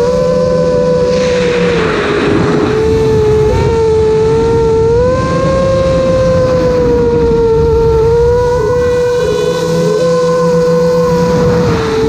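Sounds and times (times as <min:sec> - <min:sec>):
electric motors whining: 0:00.0 - 0:12.0
wind rumble on microphone: 0:00.0 - 0:12.0.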